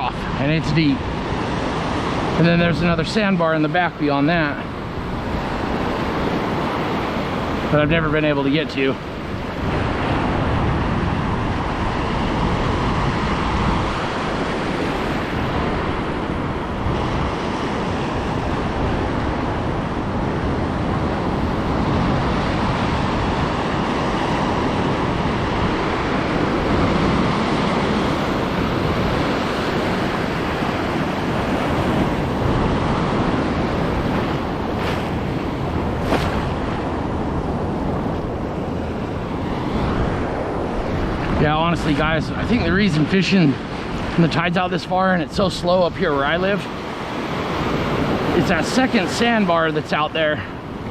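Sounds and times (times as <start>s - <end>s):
surf washing around legs: 0.0s - 50.9s
wind buffeting microphone: 0.0s - 50.9s.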